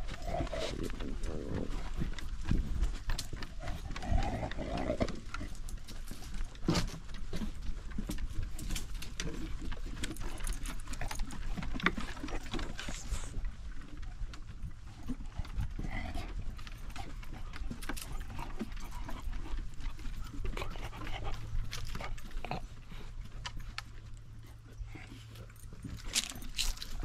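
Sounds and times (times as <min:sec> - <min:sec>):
dog claws clicking on wooden planks: 0:00.0 - 0:27.0
dog panting: 0:00.0 - 0:27.0.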